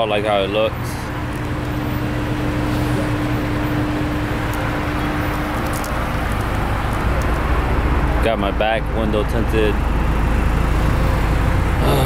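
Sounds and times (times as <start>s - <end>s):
road traffic rumble: 0.0s - 12.0s
steady hum: 0.0s - 12.0s.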